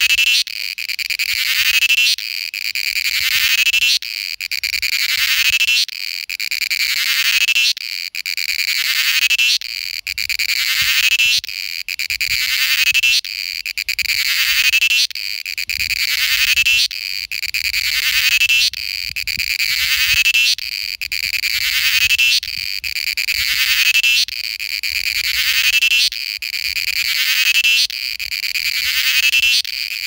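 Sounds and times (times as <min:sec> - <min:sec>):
cicada buzzing: 0:00.0 - 0:30.0.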